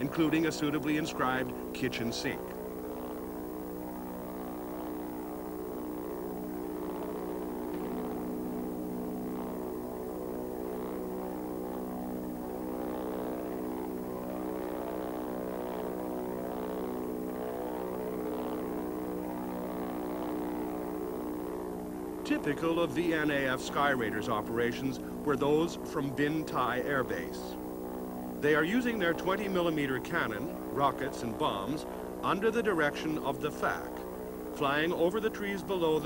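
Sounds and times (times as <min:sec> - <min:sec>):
propeller plane engines droning: 0:00.0 - 0:36.0.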